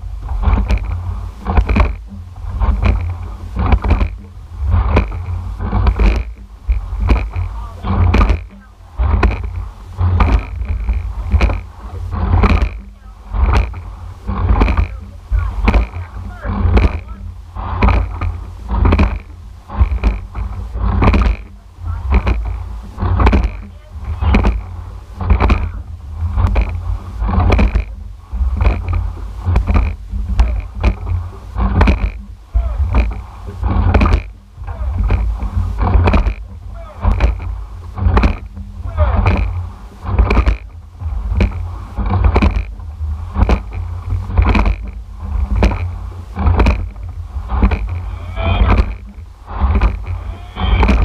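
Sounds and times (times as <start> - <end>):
oars clunking in oarlocks: 0.0 - 51.0
water rushing past hull: 0.0 - 51.0
wind rumble on microphone: 0.0 - 51.0.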